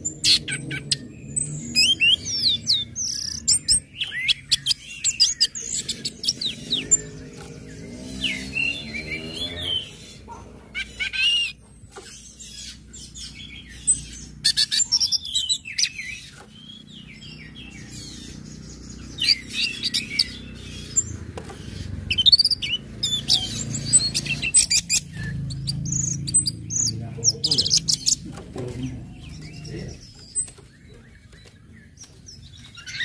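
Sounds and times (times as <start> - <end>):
bird rapid high chirping: 0.0 - 33.0.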